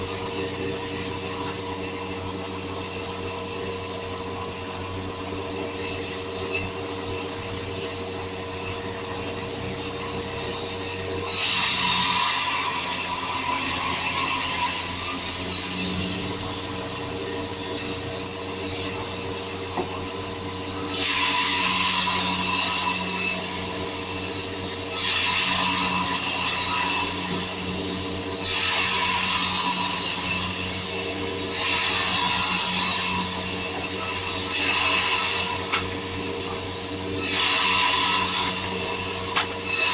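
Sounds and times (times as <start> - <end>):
power saw running: 0.0 - 39.9
saw blade cutting wood: 0.0 - 39.9.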